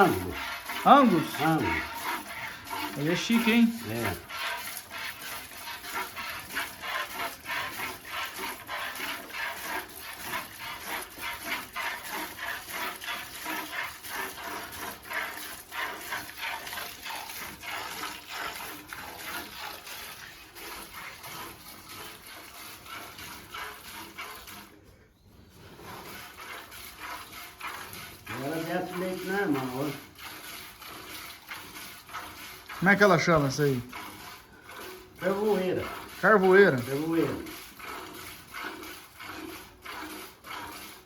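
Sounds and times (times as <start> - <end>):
milk squirting into a bucket: 0.0 - 24.9, 25.5 - 41.0.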